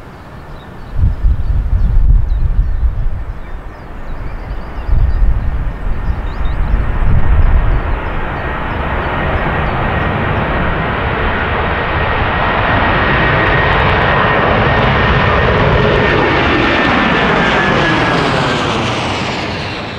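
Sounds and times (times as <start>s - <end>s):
high engine whine: 0.0s - 19.9s
jet engines roaring overhead: 0.0s - 19.9s.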